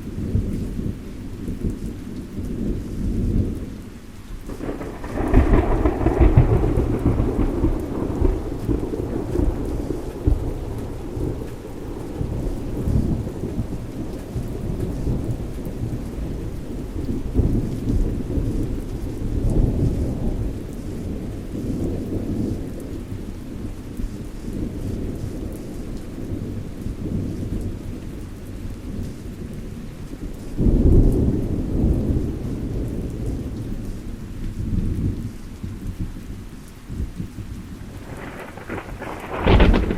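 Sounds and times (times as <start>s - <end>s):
steady rain: 0.0s - 39.9s
rolling thunder: 4.5s - 39.9s.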